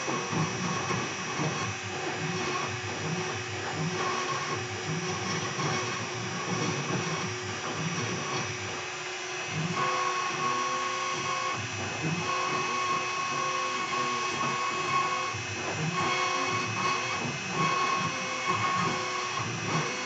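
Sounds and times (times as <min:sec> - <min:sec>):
router spindle running under load: 0:00.0 - 0:20.0.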